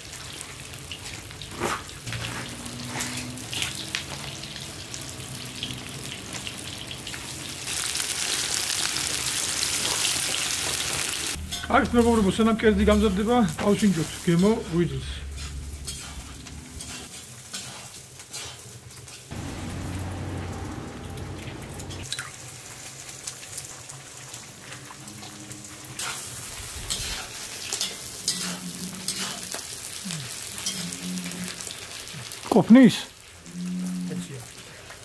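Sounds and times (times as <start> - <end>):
liver sizzling in hot oil: 0.0 - 12.0, 13.0 - 35.0.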